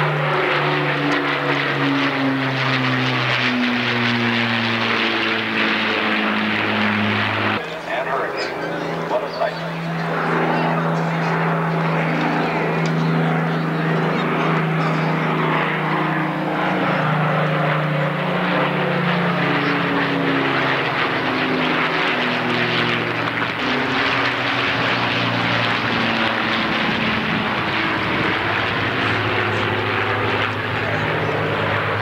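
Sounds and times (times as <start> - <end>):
propeller aircraft engines droning: 0.0 - 32.0.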